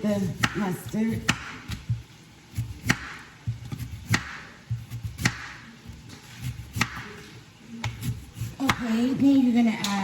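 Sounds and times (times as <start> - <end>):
knife chopping on cutting board: 0.2 - 9.0.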